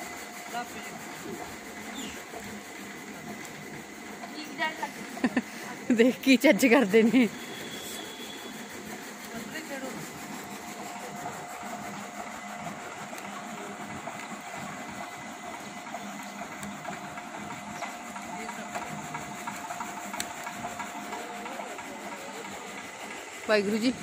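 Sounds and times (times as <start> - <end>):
chaff cutter whirring: 0.0 - 24.0.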